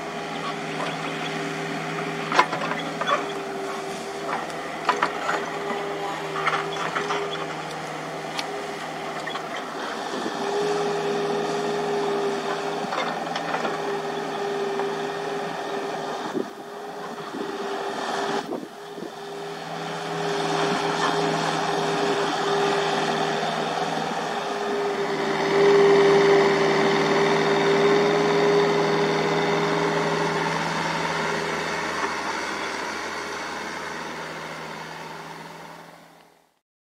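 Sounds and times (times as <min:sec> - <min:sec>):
excavator diesel engine running: 0:00.0 - 0:36.3.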